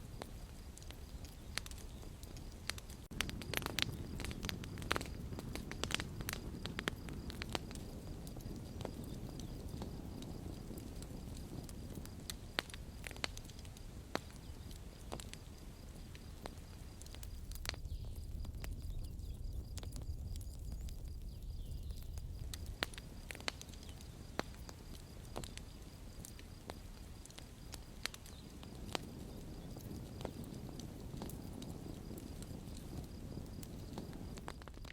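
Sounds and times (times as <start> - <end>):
campfire crackling: 0.0 - 34.9
low rumble of burning: 0.0 - 34.9.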